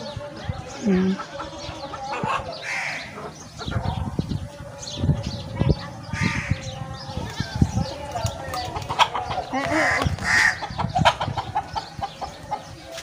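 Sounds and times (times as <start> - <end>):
hens and roosters clucking: 0.0 - 13.0.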